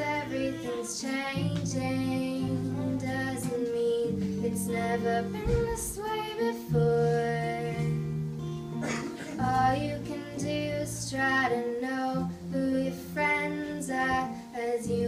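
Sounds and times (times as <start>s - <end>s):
acoustic guitar strumming: 0.0s - 15.0s
electric guitar: 0.0s - 15.0s
woman singing: 0.0s - 15.0s.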